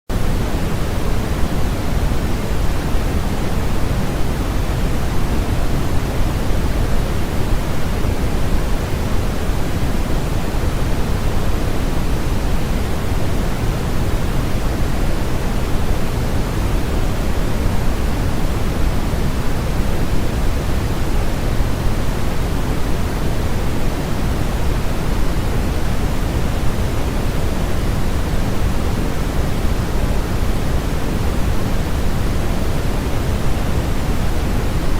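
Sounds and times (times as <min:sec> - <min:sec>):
low-heavy masking noise hiss: 0:00.1 - 0:34.9.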